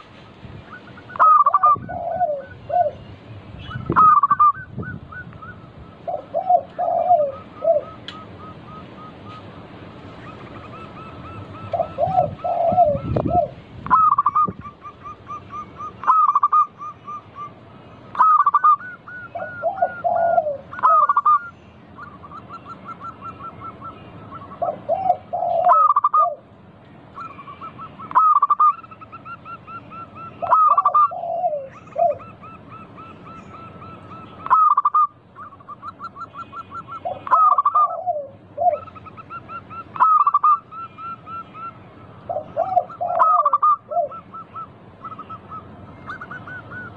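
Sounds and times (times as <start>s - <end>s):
doves cooing: 0.0s - 26.5s, 27.2s - 46.9s.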